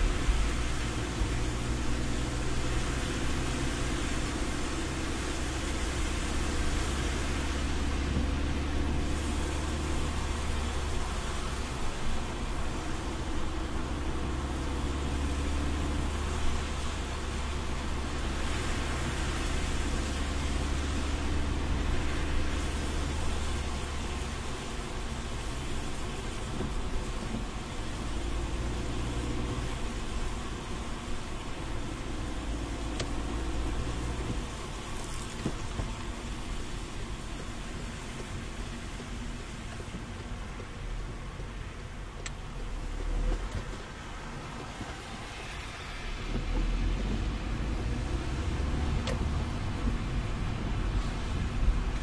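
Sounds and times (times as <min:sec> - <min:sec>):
low rumble of engine and road: 0:00.0 - 0:52.0
tyres hissing on wet asphalt: 0:00.0 - 0:52.0.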